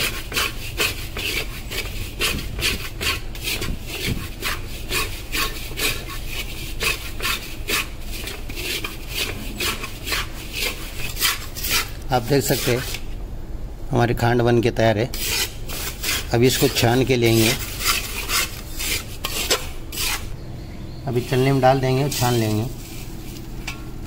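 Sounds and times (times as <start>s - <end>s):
metal spatula scraping sugar: 0.0s - 13.0s, 15.2s - 20.3s, 21.1s - 23.7s.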